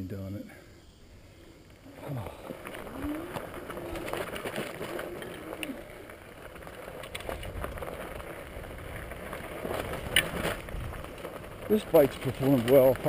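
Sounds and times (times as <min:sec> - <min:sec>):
faint steady whine: 0:00.0 - 0:12.8
bike tyres crunching on gravel: 0:01.7 - 0:13.0
stones clicking and frame rattling: 0:02.1 - 0:13.0.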